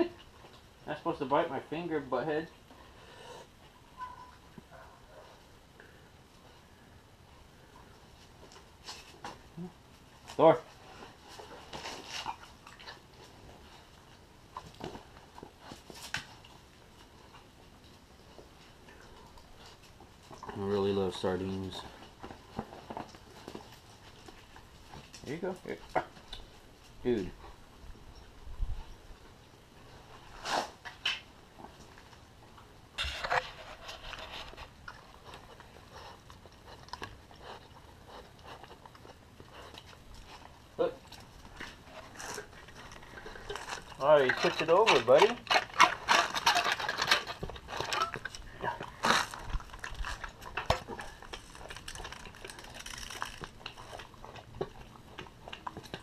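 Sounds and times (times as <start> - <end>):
puppy chewing: 7.4 - 56.0.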